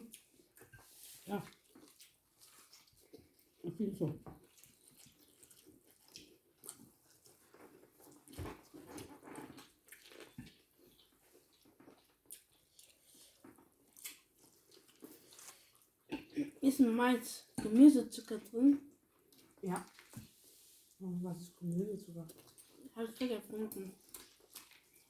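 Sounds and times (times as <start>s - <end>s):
quiet chewing: 0.0s - 16.6s, 17.4s - 25.0s.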